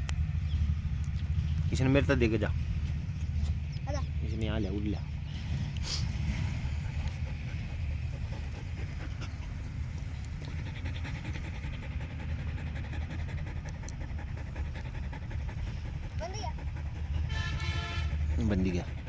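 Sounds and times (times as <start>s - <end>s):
steady low rumble: 0.0s - 19.0s
dog panting: 0.1s - 19.0s.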